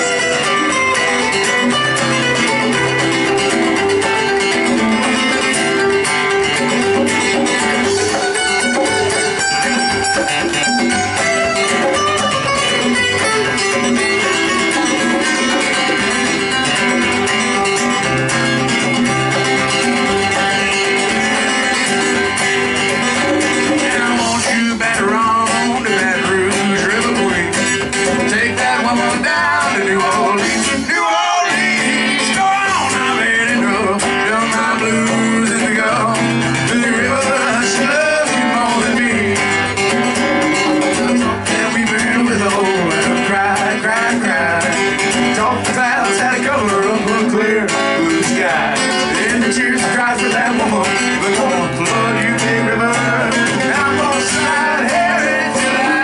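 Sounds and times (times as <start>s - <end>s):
acoustic guitar: 0.0s - 56.0s
conga drums: 0.0s - 56.0s.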